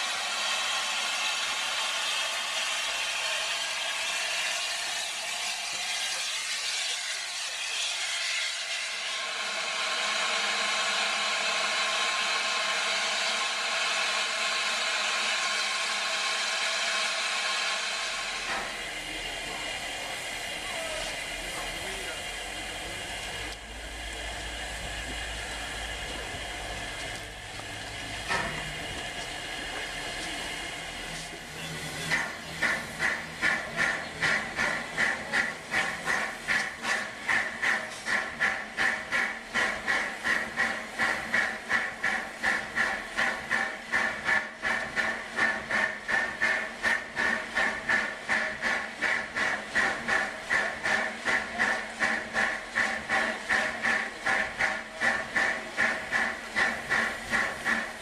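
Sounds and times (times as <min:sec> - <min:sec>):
steam hissing: 0:00.0 - 0:58.0.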